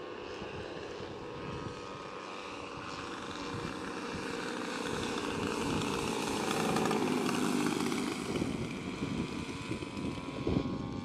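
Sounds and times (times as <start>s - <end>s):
propeller engines of model plane: 0.0s - 11.0s.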